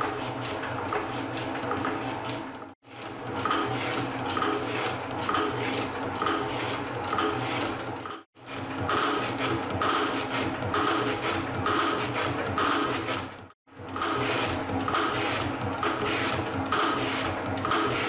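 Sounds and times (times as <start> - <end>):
metal shaper cutting: 0.0 - 18.0.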